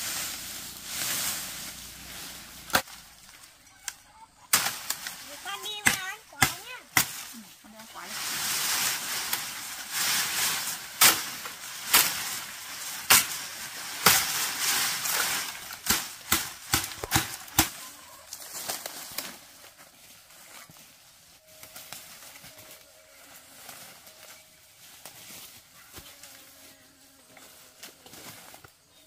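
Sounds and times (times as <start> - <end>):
rustling: 0.0 - 29.0.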